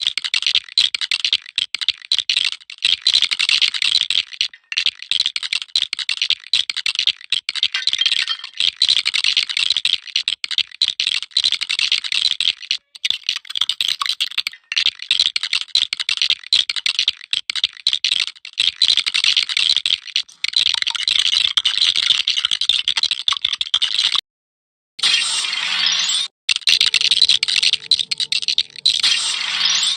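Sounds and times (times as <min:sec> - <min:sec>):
plastic bricks rattling and clicking: 0:00.0 - 0:24.2, 0:26.5 - 0:29.1.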